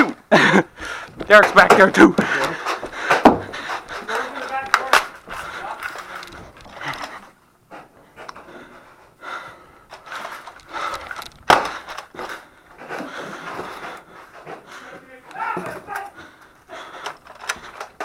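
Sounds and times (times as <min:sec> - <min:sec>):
person breathing heavily: 0:00.0 - 0:01.4, 0:02.1 - 0:18.0.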